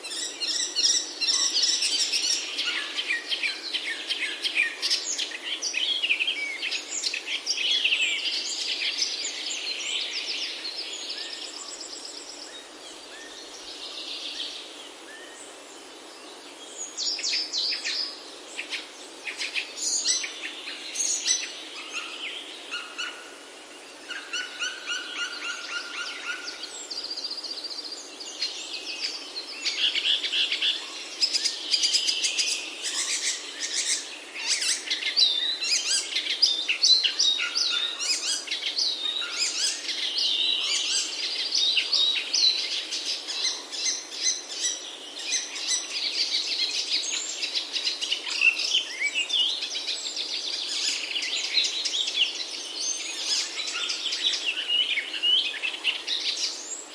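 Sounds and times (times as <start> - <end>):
faint steady hiss: 0.0 - 56.9
songbirds singing and calling: 0.0 - 56.9.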